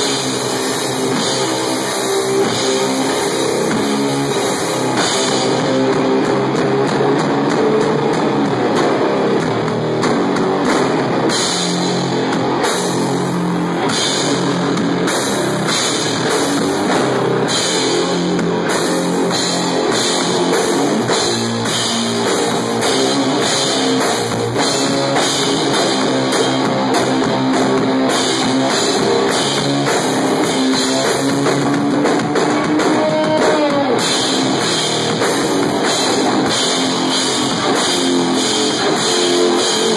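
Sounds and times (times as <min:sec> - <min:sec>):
drum kit: 0:00.0 - 0:39.9
loud electric guitar: 0:00.0 - 0:39.9.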